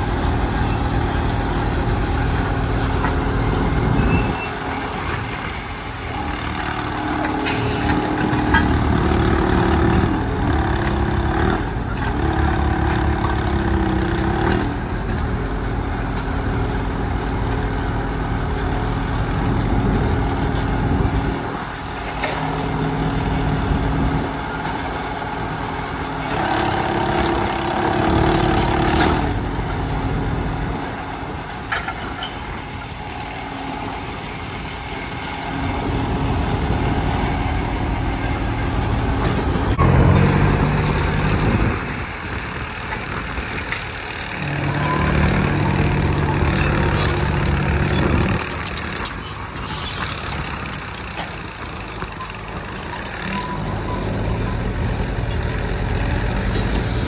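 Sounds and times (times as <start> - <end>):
crane engine running: 0.0 - 57.0.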